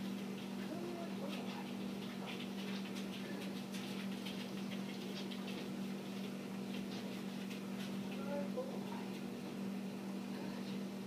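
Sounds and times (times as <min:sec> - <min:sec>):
dog's paws pattering on foam mats: 0:00.0 - 0:09.7
steady low hum: 0:00.0 - 0:11.0.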